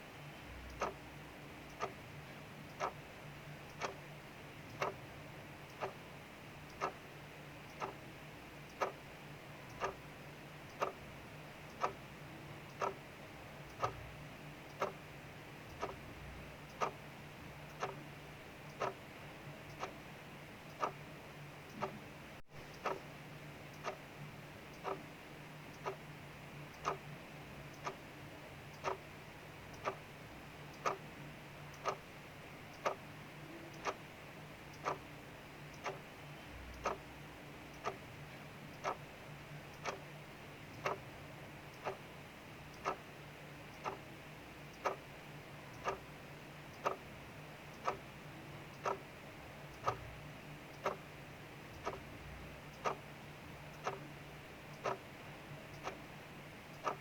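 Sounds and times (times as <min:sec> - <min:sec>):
faint low hum: 0:00.0 - 0:57.0
clock ticking: 0:00.5 - 0:57.0.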